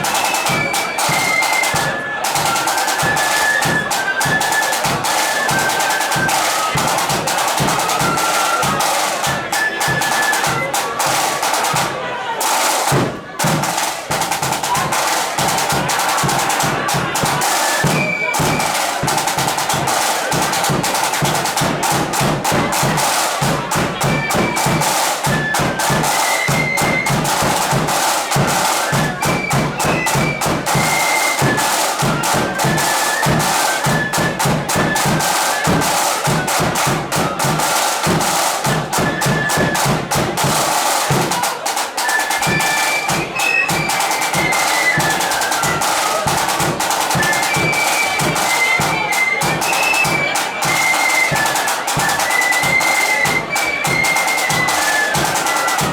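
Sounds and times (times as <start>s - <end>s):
flutes playing a melody: 0.0s - 12.4s, 14.1s - 55.9s
rapid snare drumming: 0.0s - 55.9s.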